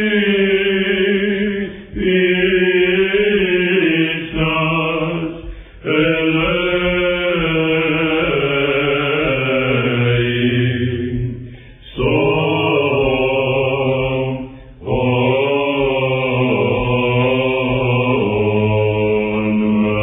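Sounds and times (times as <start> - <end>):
low vocal drone: 0.0 - 20.0
men chanting a hymn: 0.0 - 20.0.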